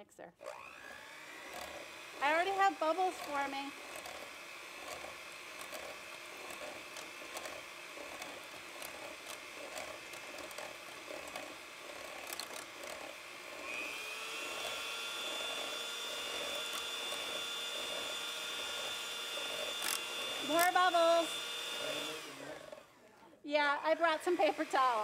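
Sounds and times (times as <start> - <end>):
electric hand mixer whirring: 0.4 - 25.0.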